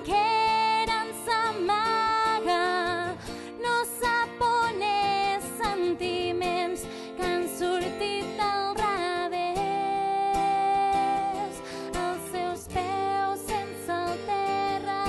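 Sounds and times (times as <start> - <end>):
strummed acoustic guitar: 0.0 - 15.0
woman singing a ballad: 0.0 - 15.0.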